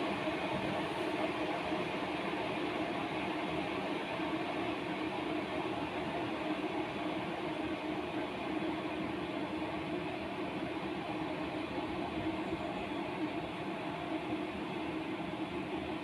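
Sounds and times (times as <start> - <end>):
electric kettle heating water: 0.0 - 16.0.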